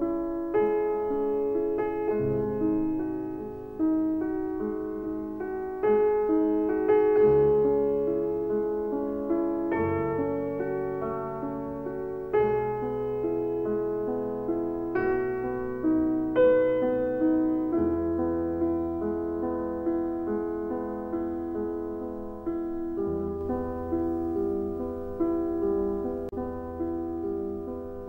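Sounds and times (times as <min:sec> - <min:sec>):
slow piano music: 0:00.0 - 0:28.0.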